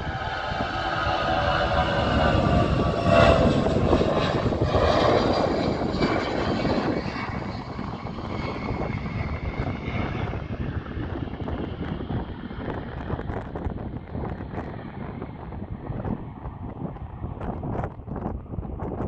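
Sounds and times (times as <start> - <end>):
jet engines whining past: 0.0 - 19.0
jet rumble: 0.0 - 19.0.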